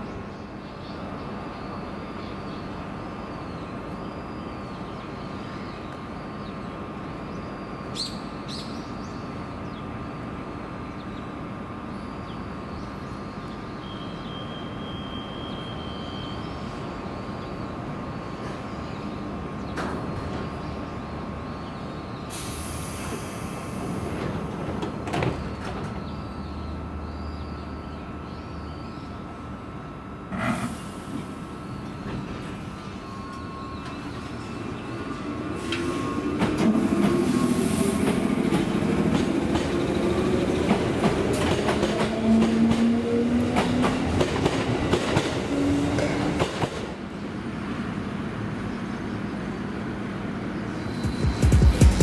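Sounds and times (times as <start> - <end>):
train equipment hum and whine: 0.0 - 52.0.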